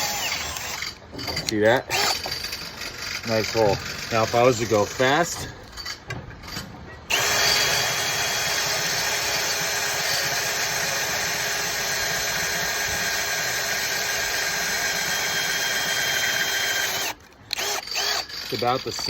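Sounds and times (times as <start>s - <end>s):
power drill boring into metal: 0.0s - 19.0s.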